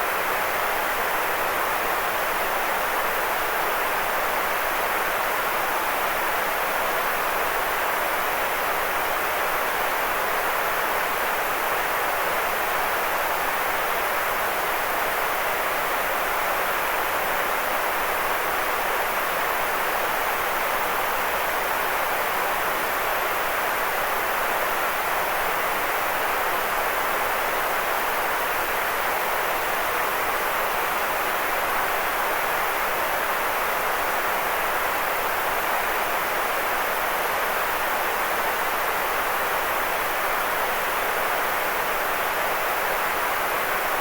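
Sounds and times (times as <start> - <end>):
white noise hiss: 0.0 - 44.0.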